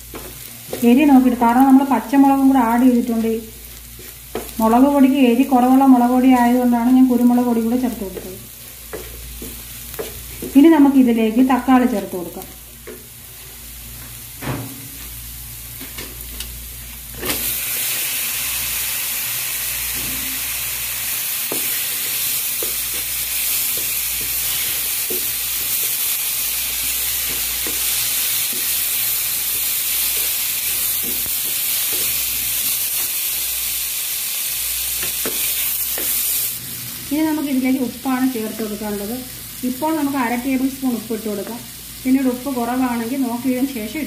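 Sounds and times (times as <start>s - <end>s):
tomatoes sizzling in hot oil: 0.0s - 44.0s.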